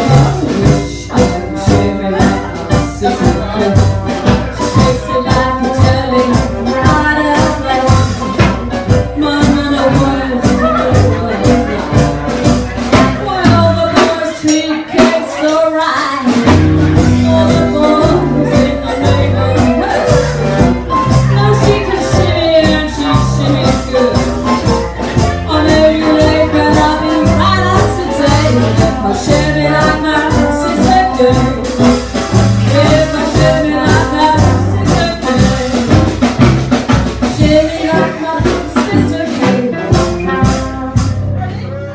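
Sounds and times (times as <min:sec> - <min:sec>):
jazz band playing: 0:00.0 - 0:41.9.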